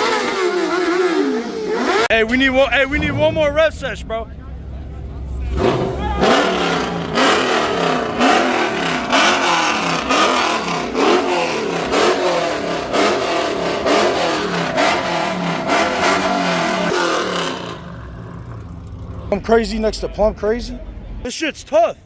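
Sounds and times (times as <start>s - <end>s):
car engine revving in quick blips: 0.0s - 19.4s.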